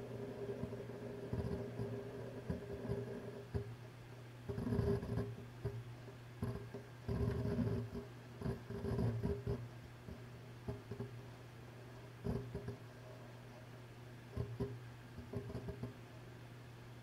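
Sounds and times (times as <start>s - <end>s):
hard drives and fan humming: 0.0s - 17.0s.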